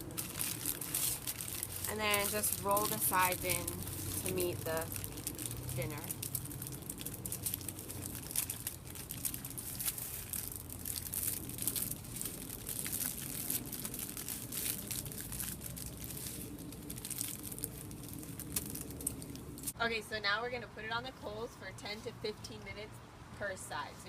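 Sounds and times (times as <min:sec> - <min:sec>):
aluminium foil crinkling: 0:00.0 - 0:19.8.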